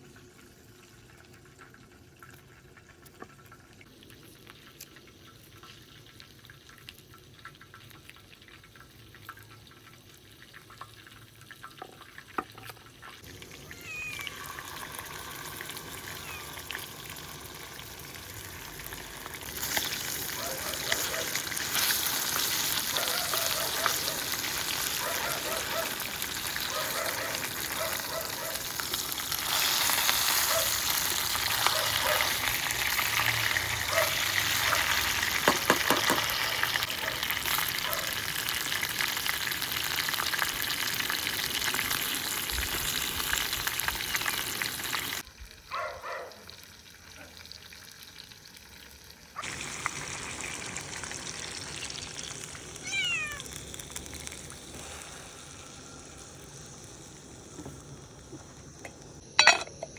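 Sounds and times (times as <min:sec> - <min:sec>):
food sizzling in hot oil: 0:00.0 - 0:45.7, 0:46.3 - 0:59.9.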